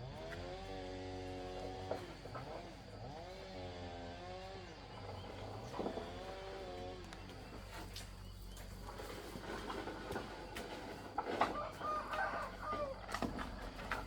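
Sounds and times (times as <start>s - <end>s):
small engine revving: 0.0s - 14.0s.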